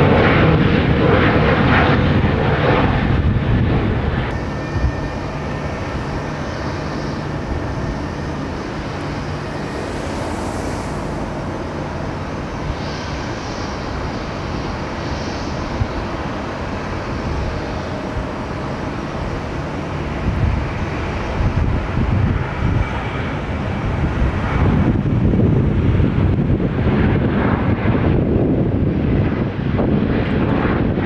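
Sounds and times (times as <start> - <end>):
distant jet engines running: 0.0 - 31.0.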